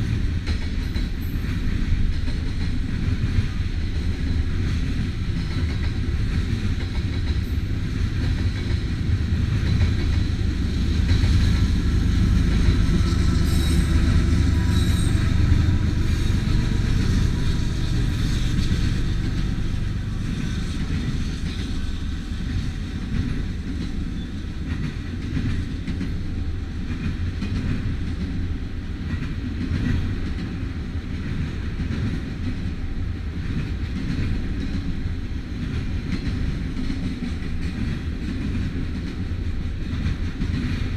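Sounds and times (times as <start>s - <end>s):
freight train rumbling past: 0.0s - 40.9s.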